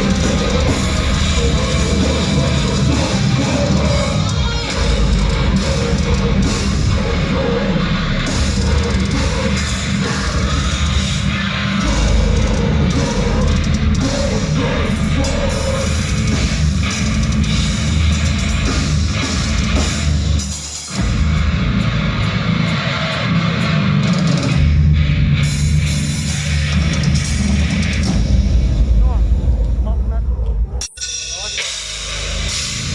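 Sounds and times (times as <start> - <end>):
heavy metal band playing live: 0.0 - 32.9.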